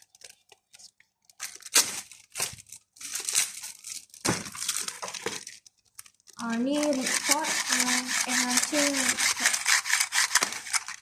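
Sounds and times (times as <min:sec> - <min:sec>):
plastic packaging crinkling and tearing: 0:00.0 - 0:11.0.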